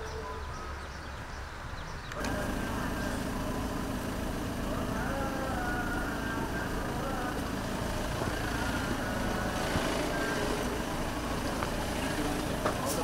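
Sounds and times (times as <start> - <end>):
road traffic rumble: 0.0 - 13.0
murmur of voices: 2.1 - 13.0.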